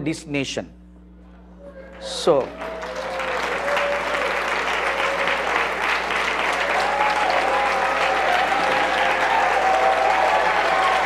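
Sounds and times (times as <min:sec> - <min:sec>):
crowd applauding: 0:01.8 - 0:11.0.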